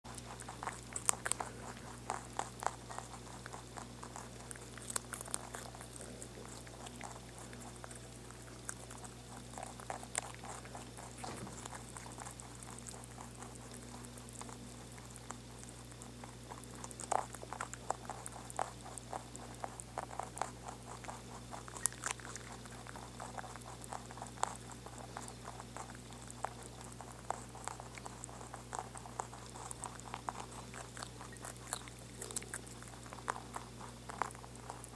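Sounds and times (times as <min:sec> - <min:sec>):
rabbits chewing crunchily: 0:00.0 - 0:34.9
steady low hum: 0:00.1 - 0:34.9.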